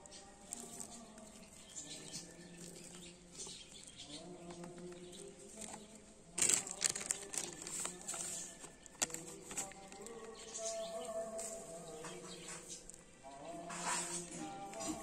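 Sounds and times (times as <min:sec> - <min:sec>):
berries rattling in a container: 0:00.4 - 0:13.0.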